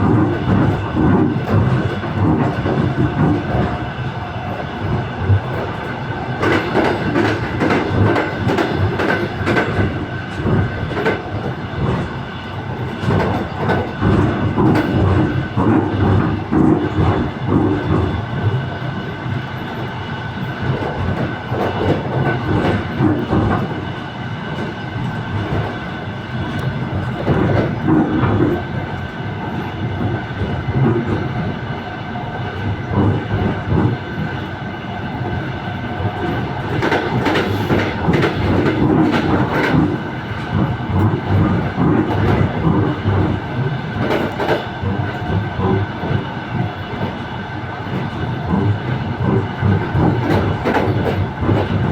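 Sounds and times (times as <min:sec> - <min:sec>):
train rumble: 0:00.0 - 0:51.9.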